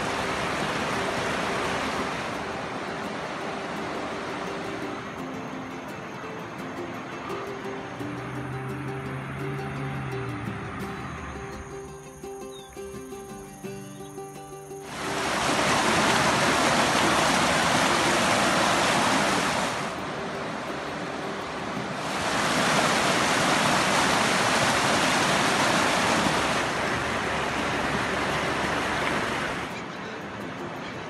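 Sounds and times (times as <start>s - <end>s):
river rushing over rocks: 0.0s - 9.4s, 14.8s - 31.0s.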